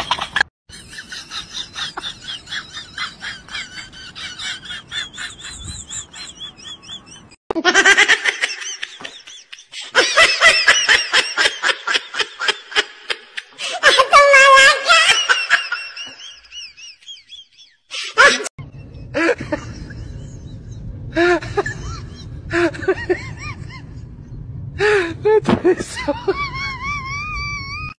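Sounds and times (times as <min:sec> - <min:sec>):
high-pitched laughter: 0:00.0 - 0:24.0, 0:24.8 - 0:27.9.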